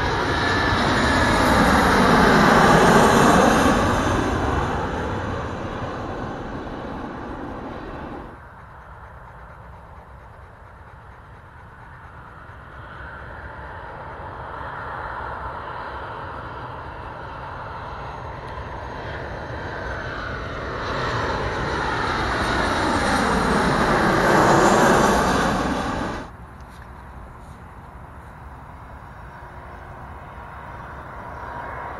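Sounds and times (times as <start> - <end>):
jet airliner passing overhead: 0.0 - 31.9.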